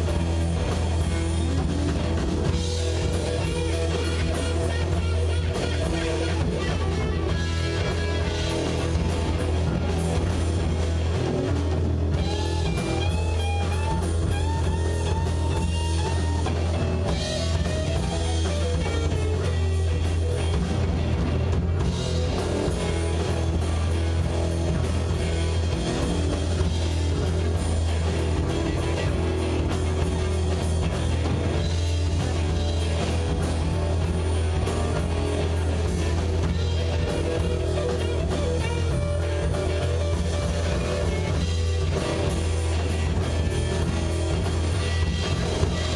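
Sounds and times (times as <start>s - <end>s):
lead guitar bending notes: 0.0s - 45.9s
live rock band playing: 0.0s - 45.9s.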